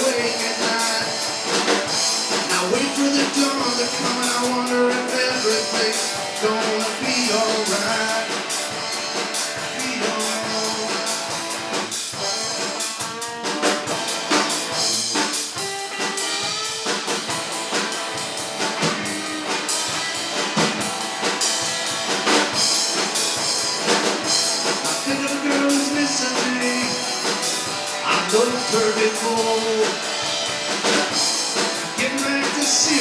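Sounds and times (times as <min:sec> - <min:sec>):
drum kit beats and rimshots: 0:00.0 - 0:33.0
live rock band playing: 0:00.0 - 0:33.0.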